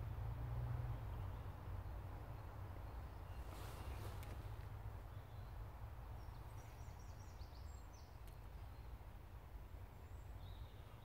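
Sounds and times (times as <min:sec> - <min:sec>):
woodland background rumble: 0:00.8 - 0:11.0
faint songbird chirps: 0:00.9 - 0:11.0.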